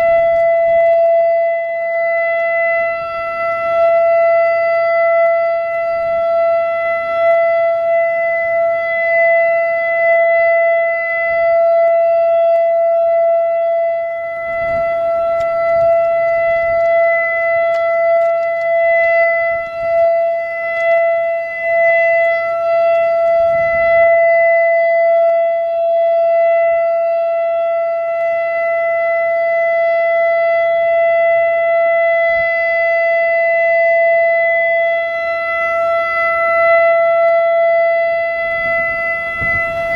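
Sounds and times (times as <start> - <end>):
siren steady alert tone: 0.0 - 39.9.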